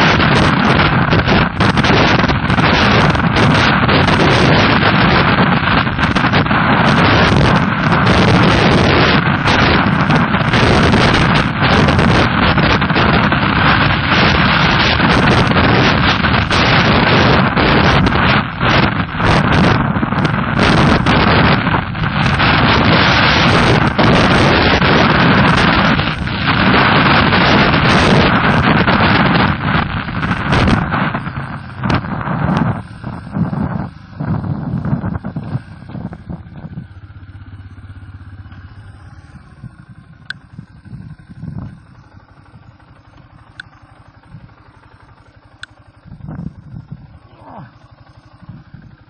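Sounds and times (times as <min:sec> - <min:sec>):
motorcycle engine: 0:00.0 - 0:49.0
wind buffeting microphone: 0:00.0 - 0:49.0.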